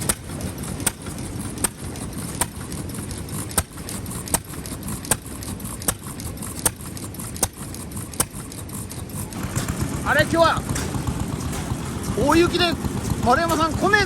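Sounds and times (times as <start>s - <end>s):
stationary engine chugging: 0.0s - 14.0s.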